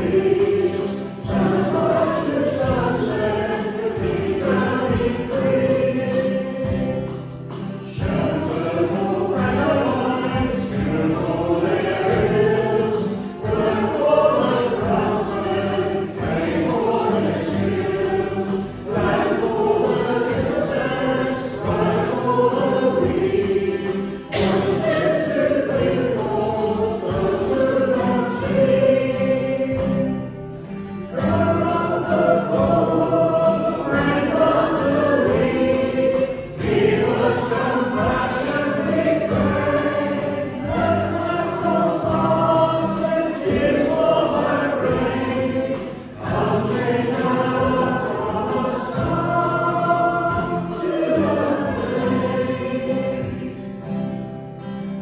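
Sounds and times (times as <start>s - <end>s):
band accompaniment: 0.0s - 53.4s
congregation singing a hymn: 0.0s - 55.0s.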